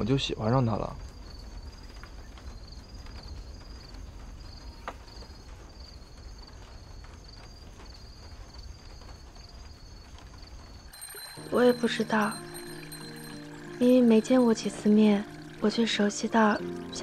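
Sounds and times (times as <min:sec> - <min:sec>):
insects chirping in trills: 0:00.0 - 0:17.0.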